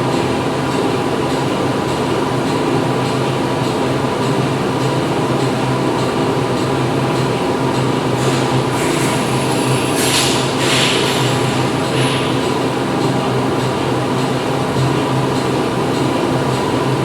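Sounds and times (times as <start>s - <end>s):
factory machinery humming: 0.0s - 17.0s.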